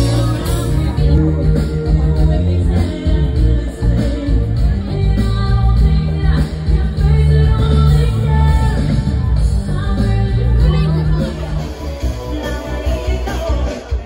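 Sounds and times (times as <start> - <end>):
live pop band: 0.0 - 14.0
woman singing: 0.0 - 14.0.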